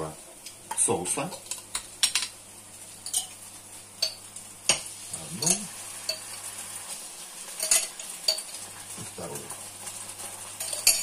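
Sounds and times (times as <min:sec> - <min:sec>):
light steady sizzle: 0:00.0 - 0:11.0.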